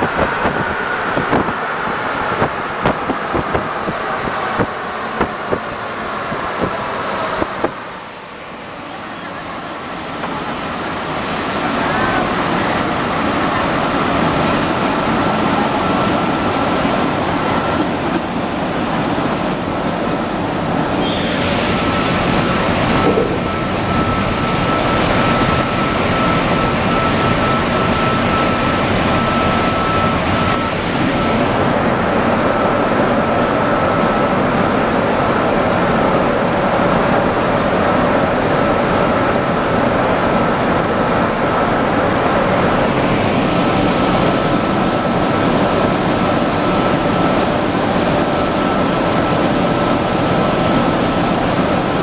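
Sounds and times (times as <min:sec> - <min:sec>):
high-pitched whine: 0:00.0 - 0:52.0
metro train rumbling: 0:00.0 - 0:52.0.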